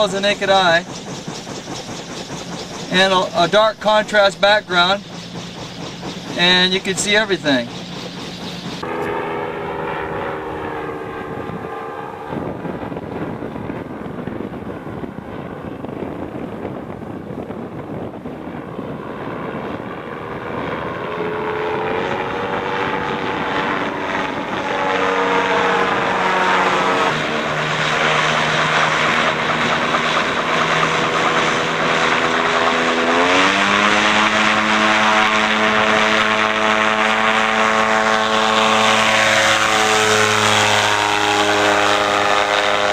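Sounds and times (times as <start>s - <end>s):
gyroplane engine and propeller: 0.0s - 42.9s.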